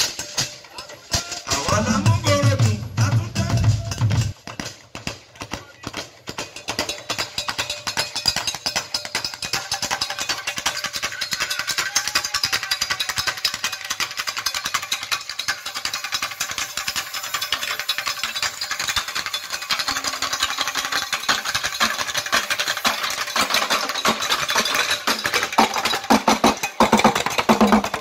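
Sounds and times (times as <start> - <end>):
fast drum hits: 1.1 - 28.0.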